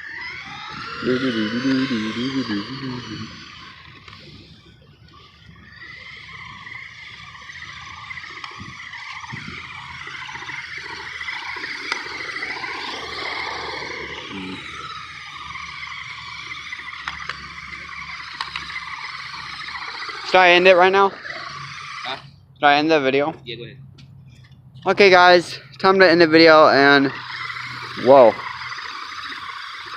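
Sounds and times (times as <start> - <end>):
toy car whirring whine: 0.0 - 23.0, 24.2 - 29.9.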